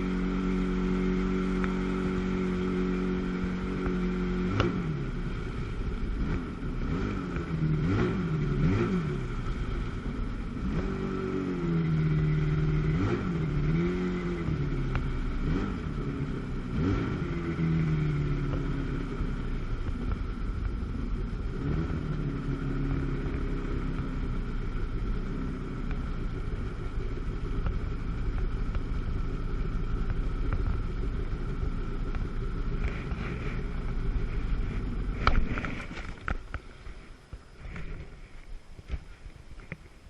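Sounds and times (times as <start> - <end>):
jet ski engine running: 0.0 - 39.8.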